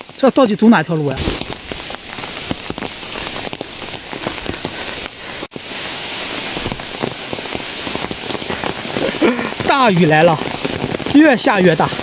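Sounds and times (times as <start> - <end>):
heavy rain falling: 0.0 - 12.0
raindrops tapping: 0.0 - 12.0.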